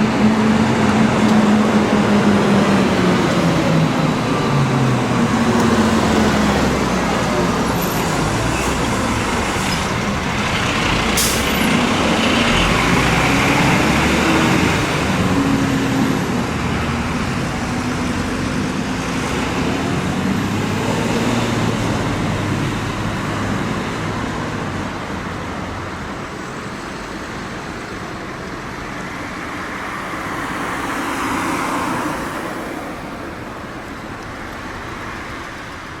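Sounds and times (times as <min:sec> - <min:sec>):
diesel trucks driving past: 0:00.0 - 0:36.0
road noise: 0:00.0 - 0:36.0.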